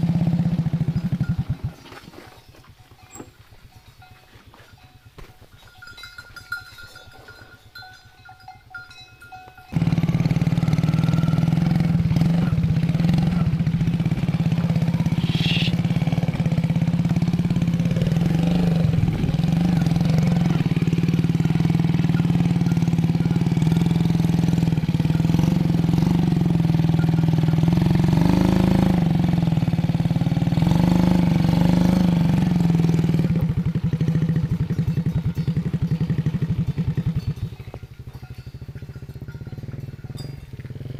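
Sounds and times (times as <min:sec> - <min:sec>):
engine humming: 0:00.0 - 0:40.9.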